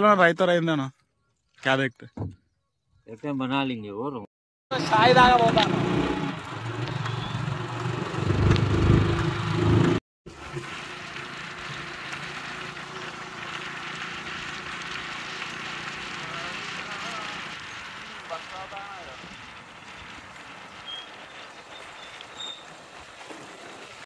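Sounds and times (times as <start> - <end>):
motor vehicle engine running: 4.7 - 24.0.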